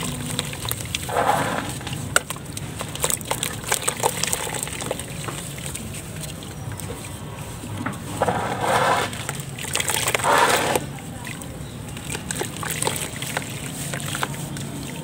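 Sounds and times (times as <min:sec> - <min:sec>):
water splashing in a tub: 0:00.0 - 0:15.0.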